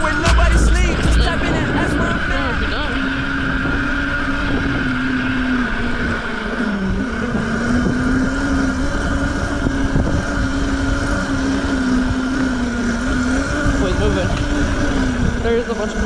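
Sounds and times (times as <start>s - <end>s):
wind rushing: 0.0s - 15.7s
mini bike engine running: 0.0s - 16.0s.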